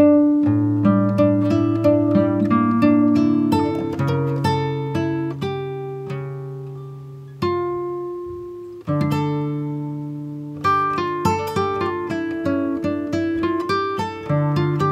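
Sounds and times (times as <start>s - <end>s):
acoustic guitar playing: 0.0s - 14.9s.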